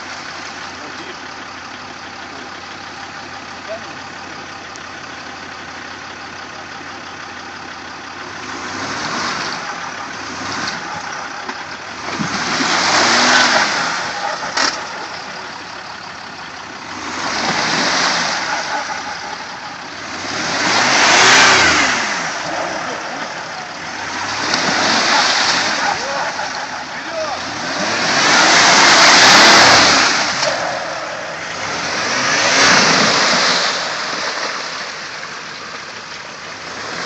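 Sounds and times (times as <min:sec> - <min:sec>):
engine idling and revving: 0:00.0 - 0:37.0.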